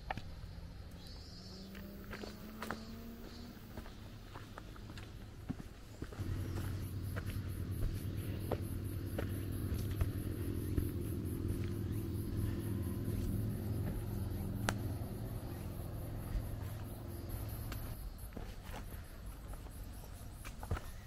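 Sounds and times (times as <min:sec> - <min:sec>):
vehicle engine rumbling: 0:00.0 - 0:20.3
insects chirping: 0:00.0 - 0:21.0.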